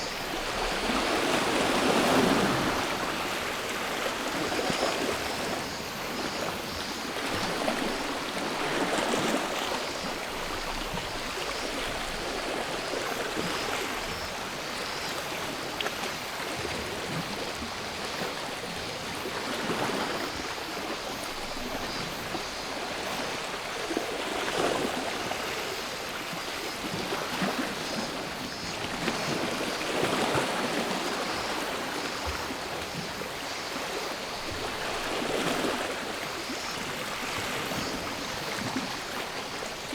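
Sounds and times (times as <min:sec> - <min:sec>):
faint drone of cicadas: 0:00.0 - 0:39.9.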